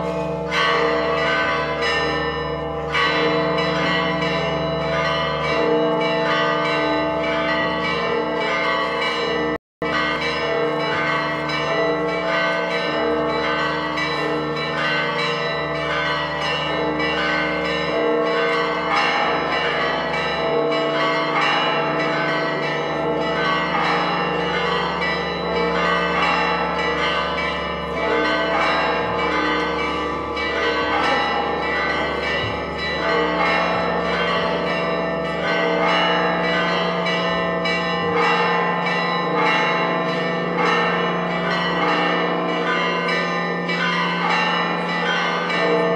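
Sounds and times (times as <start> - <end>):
church bells pealing: 0.0 - 45.9.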